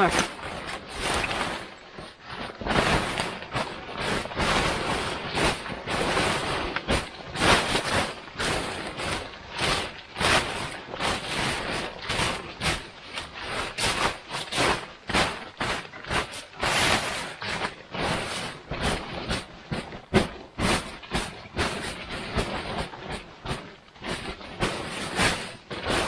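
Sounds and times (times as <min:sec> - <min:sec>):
footsteps crunching in snow: 0:00.0 - 0:26.0
tent fabric rustling: 0:00.0 - 0:26.0.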